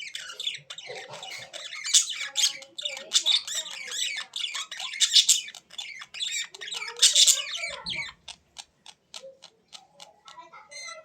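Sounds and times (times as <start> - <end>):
birds squawking and chattering: 0.0 - 11.0.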